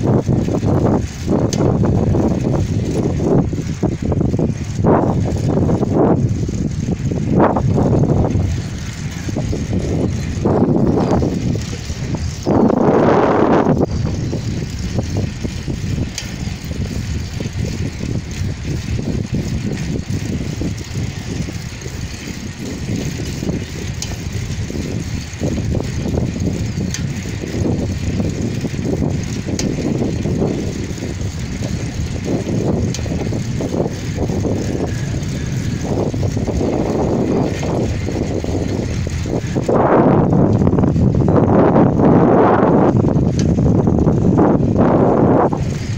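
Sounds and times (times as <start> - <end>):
bicycle tyres rolling on asphalt: 0.0 - 45.9
wind buffeting microphone: 0.0 - 45.9.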